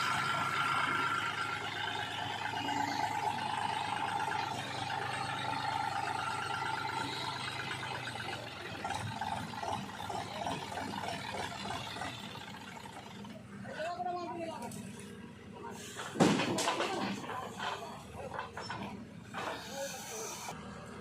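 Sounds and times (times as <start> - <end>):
heavy machinery diesel engine running: 0.0 - 21.0.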